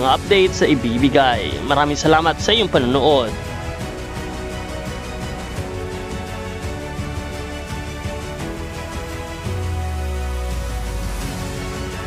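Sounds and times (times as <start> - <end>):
theme music: 0.0 - 12.0.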